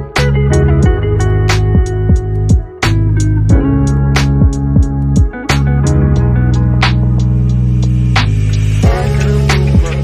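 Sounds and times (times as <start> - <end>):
sustained background music: 0.0 - 10.0.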